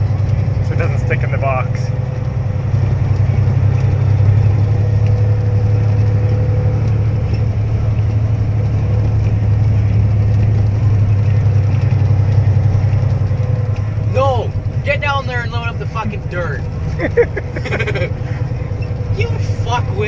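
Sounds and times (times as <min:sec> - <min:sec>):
road noise: 0:00.0 - 0:20.0
truck engine drone: 0:00.0 - 0:20.0.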